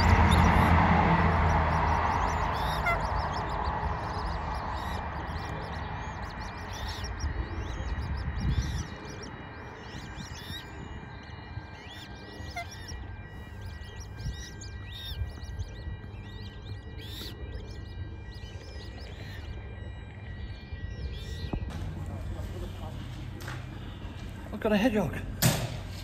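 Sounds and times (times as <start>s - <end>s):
bird chicks peeping: 0.0s - 26.0s.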